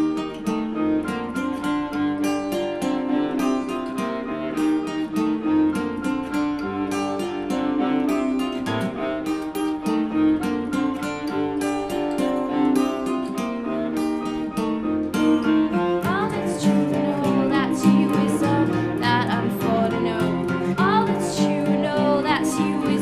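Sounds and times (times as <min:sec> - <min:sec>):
acoustic guitar picked rhythmically: 0:00.0 - 0:23.0
held sustained notes: 0:00.0 - 0:23.0.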